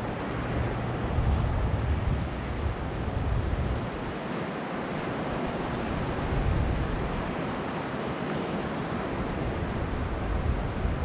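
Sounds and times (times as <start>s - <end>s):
sea and water rushing: 0.0s - 11.0s
wind buffeting microphone: 0.0s - 11.0s.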